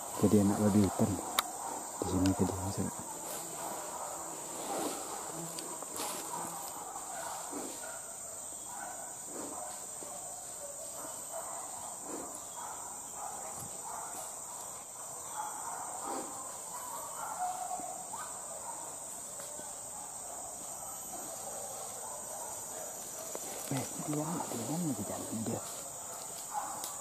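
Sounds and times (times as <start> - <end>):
insect chorus droning: 0.0 - 27.0.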